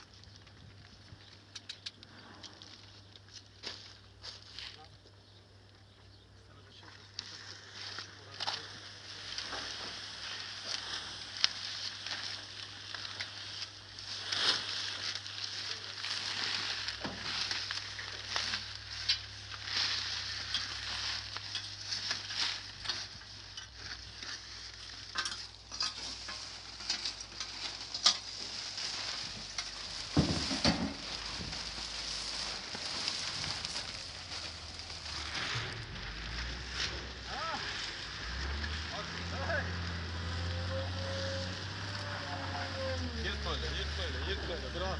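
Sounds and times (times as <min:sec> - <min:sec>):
plastic sheeting crinkling: 0:06.8 - 0:44.9.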